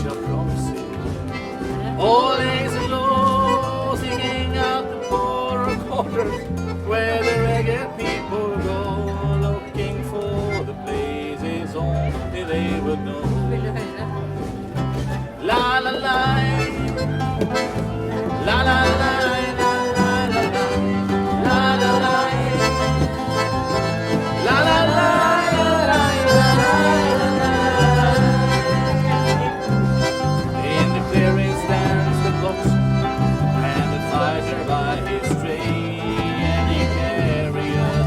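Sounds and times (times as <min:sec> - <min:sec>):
live country band playing: 0:00.0 - 0:38.0.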